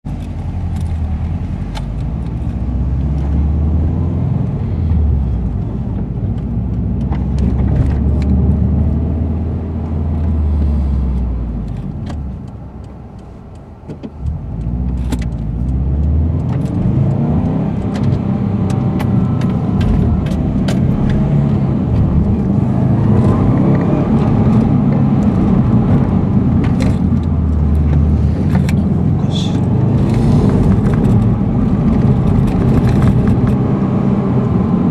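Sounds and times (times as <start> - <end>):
car engine: 0.0 - 34.9
road noise: 0.0 - 34.9.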